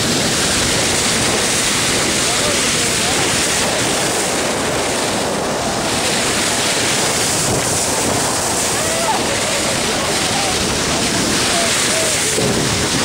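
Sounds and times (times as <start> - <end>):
sea water rushing: 0.0 - 13.0
wind buffeting the microphone: 0.0 - 13.0.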